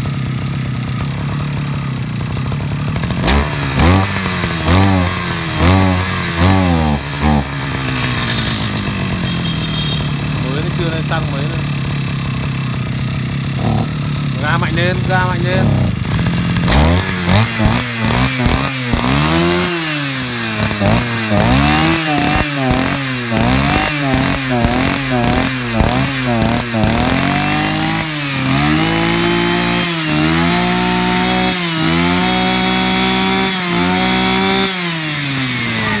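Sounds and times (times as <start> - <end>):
brushcutter engine revving: 0.0 - 36.0.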